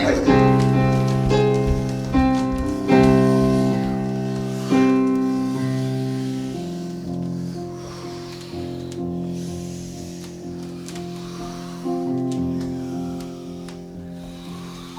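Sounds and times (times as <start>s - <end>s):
slow piano chords: 0.0s - 14.9s.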